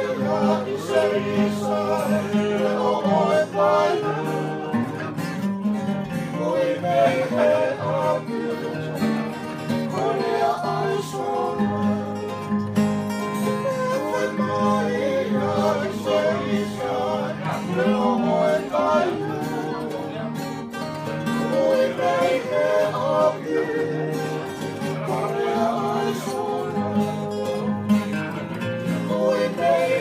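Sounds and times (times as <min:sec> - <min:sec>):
men singing together: 0:00.0 - 0:05.4, 0:06.2 - 0:20.4, 0:21.2 - 0:30.0
strummed acoustic guitars: 0:00.0 - 0:30.0
ukulele: 0:00.0 - 0:30.0.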